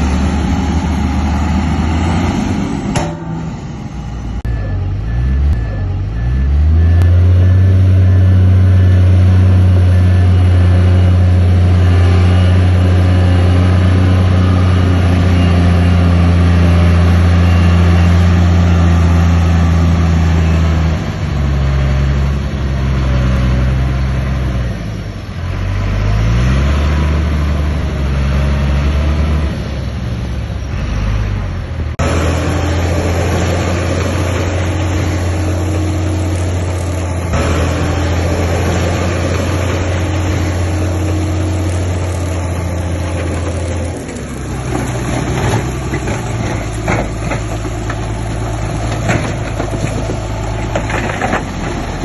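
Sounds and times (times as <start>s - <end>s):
heavy diesel engine running hard: 0.0s - 52.0s.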